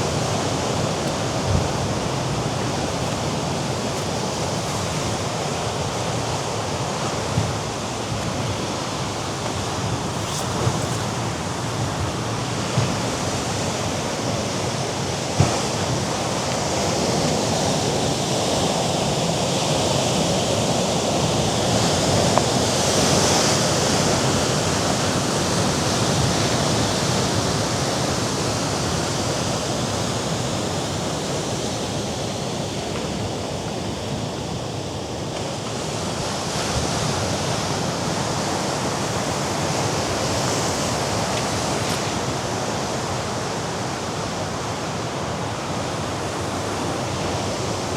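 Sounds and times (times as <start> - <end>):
sea waves washing against rocks: 0.0 - 47.9.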